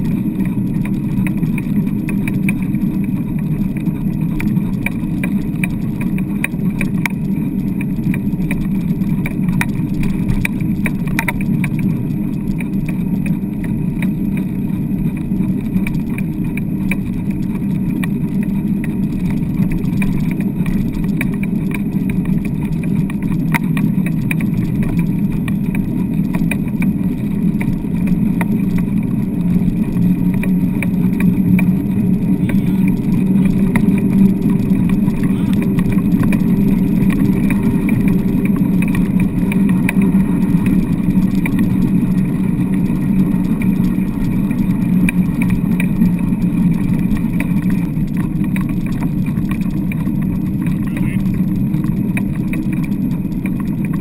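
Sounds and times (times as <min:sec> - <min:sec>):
light rattles and clicks: 0:00.0 - 0:54.0
rig rolling over wet sand: 0:00.0 - 0:54.0.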